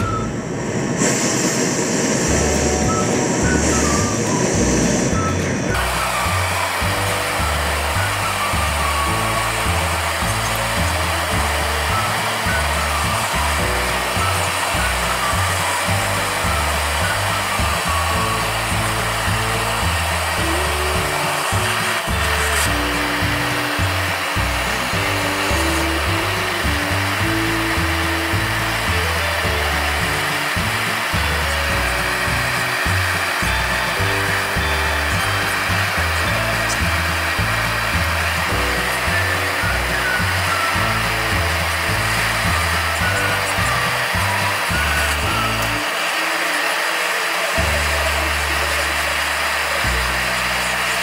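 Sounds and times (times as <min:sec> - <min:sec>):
gas torch hissing: 0:00.0 - 0:51.0
background music with bass line: 0:02.3 - 0:45.8.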